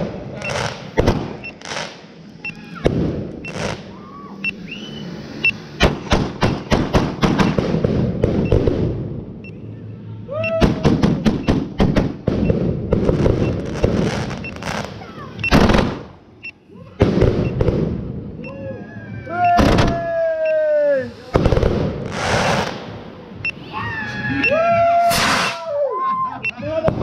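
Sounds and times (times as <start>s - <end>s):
firework bangs and crackles: 0.0s - 9.4s, 10.6s - 16.3s, 16.9s - 18.5s, 19.4s - 24.0s, 24.8s - 25.7s, 26.7s - 27.0s
firework whistling: 0.0s - 9.7s, 10.5s - 15.8s, 16.9s - 25.8s.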